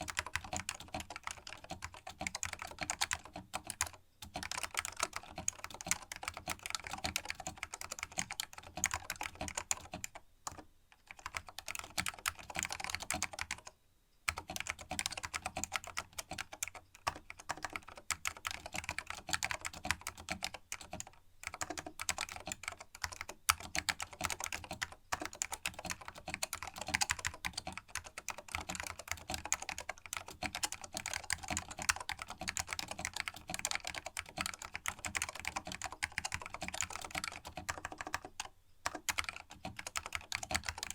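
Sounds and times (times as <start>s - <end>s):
fast keyboard typing clicks: 0.0s - 13.7s, 14.3s - 40.9s.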